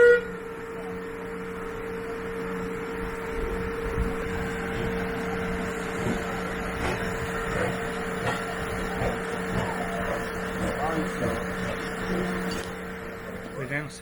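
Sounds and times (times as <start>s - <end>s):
two-tone mechanical hum: 0.0s - 14.0s.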